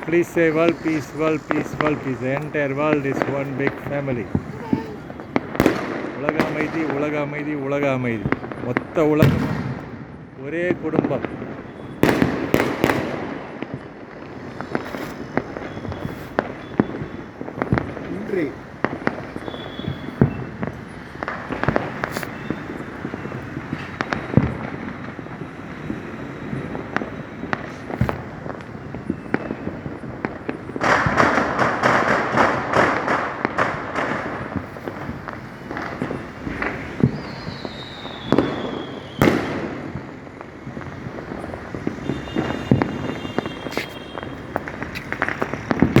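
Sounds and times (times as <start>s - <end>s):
falling firework whistle: 0.0s - 7.5s, 11.0s - 46.0s
firecracker bangs: 0.0s - 46.0s
firecrackers crackling: 0.0s - 46.0s.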